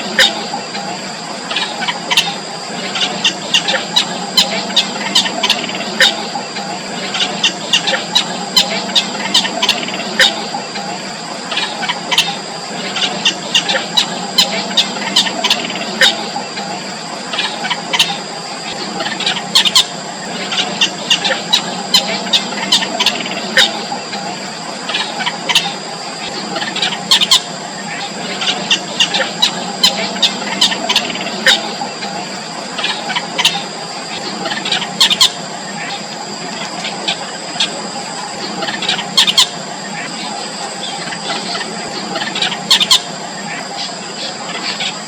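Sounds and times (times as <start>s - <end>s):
nestlings cheeping: 0.0s - 45.0s.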